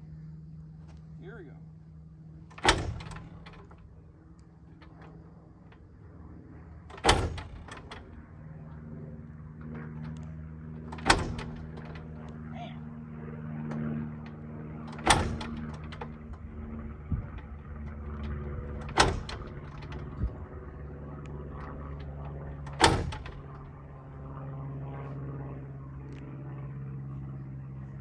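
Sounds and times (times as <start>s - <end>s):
steady low hum: 0.0s - 28.0s
aircraft engine sharp pops: 2.2s - 28.0s.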